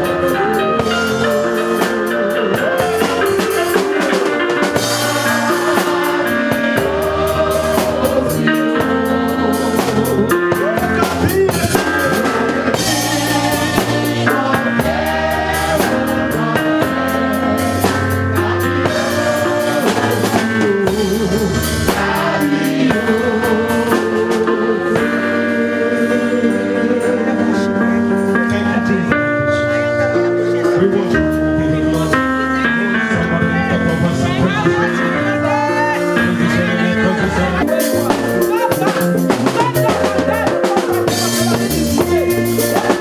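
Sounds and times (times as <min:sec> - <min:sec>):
drum kit beat: 0:00.0 - 0:43.0
gospel band playing: 0:00.0 - 0:43.0.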